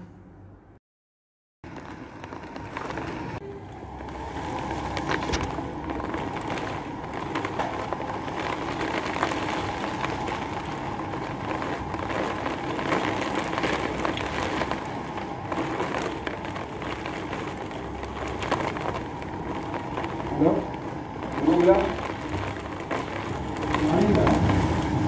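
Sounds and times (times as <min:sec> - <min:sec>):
rain taps and clicks: 0:01.6 - 0:25.0
rain and wind rushing: 0:01.7 - 0:25.0.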